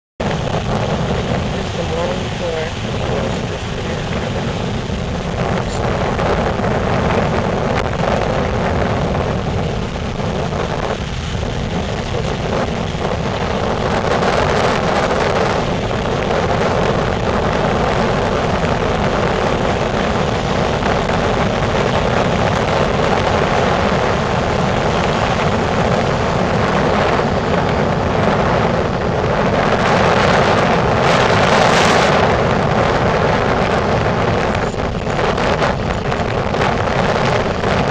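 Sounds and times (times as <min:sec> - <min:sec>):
gusty wind on microphone: 0:00.2 - 0:37.9
surf breaking on beach: 0:00.2 - 0:37.9.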